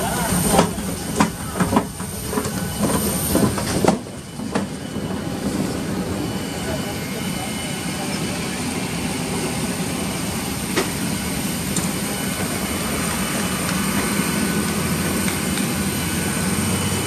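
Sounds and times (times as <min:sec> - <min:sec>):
parked jet rumble and whine: 0:00.0 - 0:17.0.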